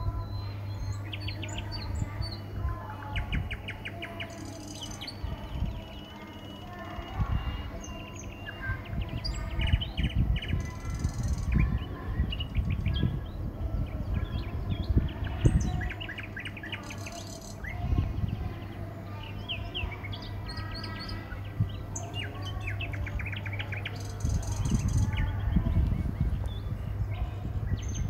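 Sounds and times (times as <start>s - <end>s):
low rumbling microphone noise: 0.0s - 6.3s, 7.0s - 28.0s
small birds chirping: 0.0s - 28.0s.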